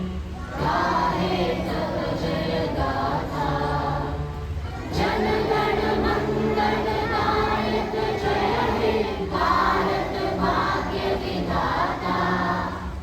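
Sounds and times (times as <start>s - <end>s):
boys singing in unison: 0.0s - 13.0s.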